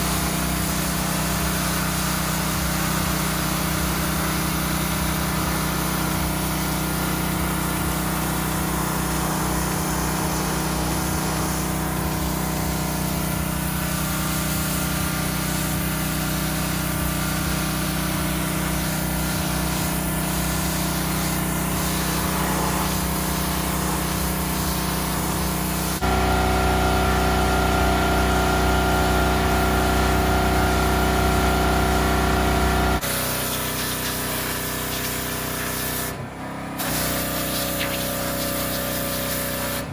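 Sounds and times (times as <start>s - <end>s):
pressure washer motor humming: 0.0s - 39.9s
water jet hissing: 0.0s - 39.9s.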